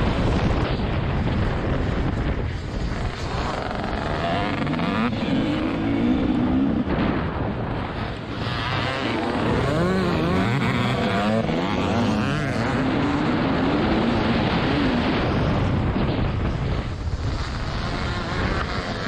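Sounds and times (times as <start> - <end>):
dirt bike engine revving: 1.4 - 19.0.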